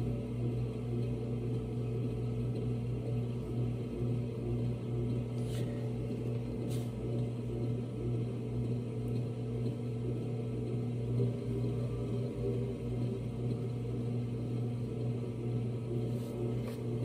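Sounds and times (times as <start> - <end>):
pottery wheel motor humming: 0.0 - 17.0.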